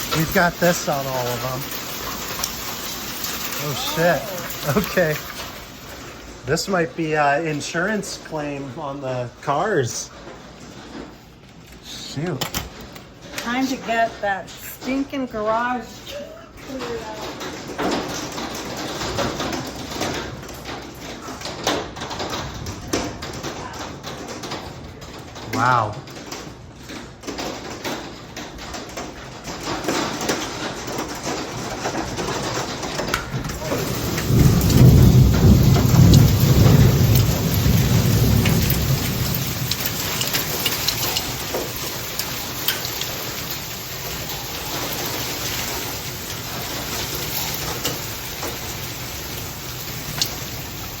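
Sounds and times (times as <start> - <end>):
hailstones striking: 0.0 - 11.2, 11.8 - 51.0
heavy rain and hail: 0.0 - 51.0.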